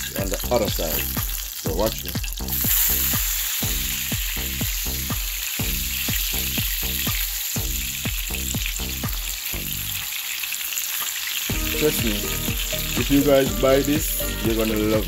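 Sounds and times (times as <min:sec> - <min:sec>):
low pitched repeating beat: 0:00.0 - 0:10.0, 0:11.5 - 0:15.0
patty sizzling in hot oil: 0:00.0 - 0:15.0.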